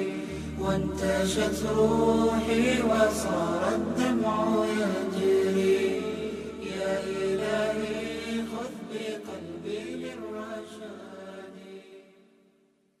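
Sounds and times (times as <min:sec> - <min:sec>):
voices chanting a cappella: 0:00.0 - 0:12.2.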